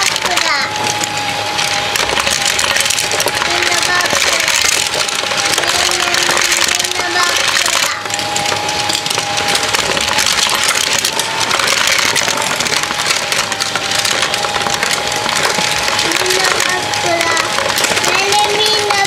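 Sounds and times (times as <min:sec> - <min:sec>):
motor whine: 0:00.0 - 0:19.0
toy cars clattering on plastic: 0:00.0 - 0:19.0.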